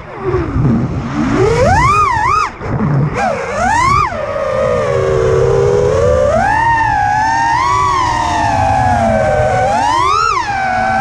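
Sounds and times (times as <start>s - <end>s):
drone motors whining: 0.0s - 11.0s
rushing prop wash and wind: 0.0s - 11.0s.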